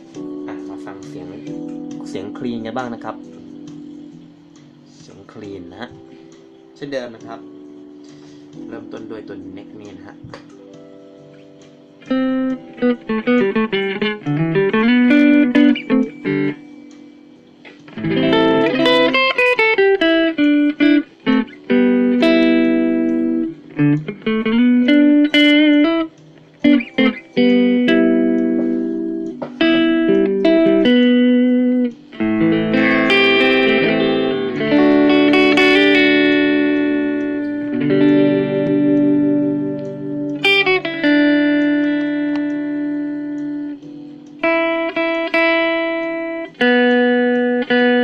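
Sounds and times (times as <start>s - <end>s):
clean electric guitar playing: 5.6s - 48.0s.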